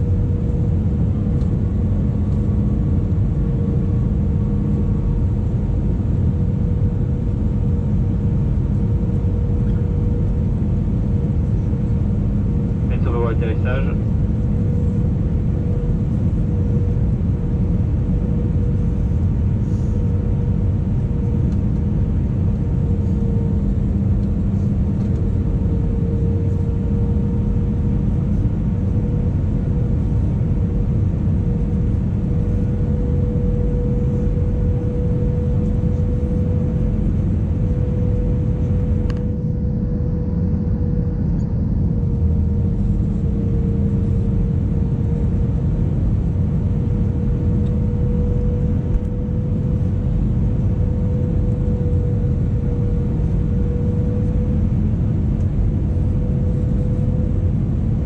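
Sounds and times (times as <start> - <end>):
airflow rushing in aircraft cabin: 0.0 - 58.0
jet engines humming: 0.0 - 58.0.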